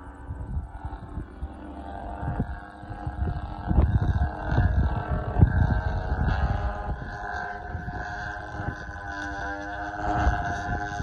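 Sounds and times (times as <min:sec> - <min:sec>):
model aircraft engine drone: 0:00.0 - 0:11.0
wind buffeting microphone: 0:00.0 - 0:11.0.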